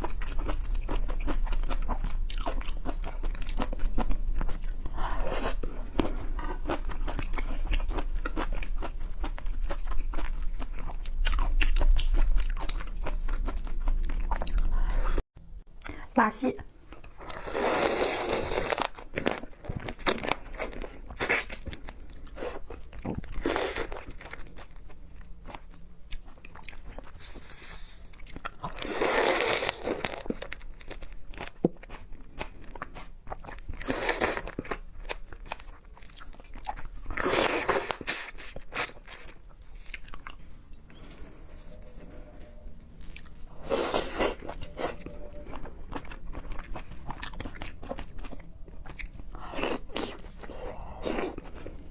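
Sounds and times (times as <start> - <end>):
soft chewing: 0.0 - 15.2, 15.8 - 51.9.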